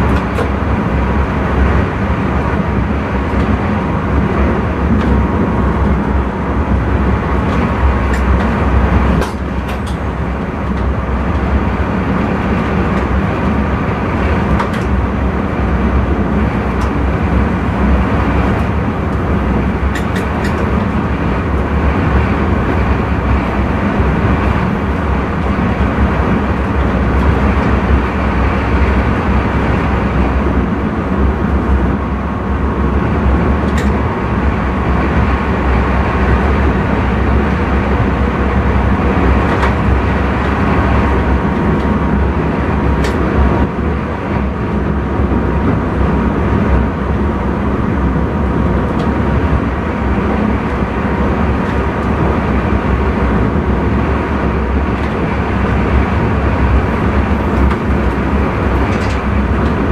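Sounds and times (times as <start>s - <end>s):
train rumbling along track: 0.0s - 59.9s.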